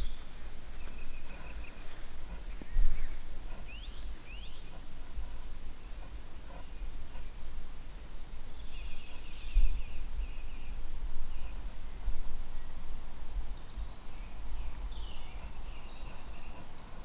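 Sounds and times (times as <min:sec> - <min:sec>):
small birds singing: 0:00.0 - 0:17.0
wind rumble on microphone: 0:00.0 - 0:17.0.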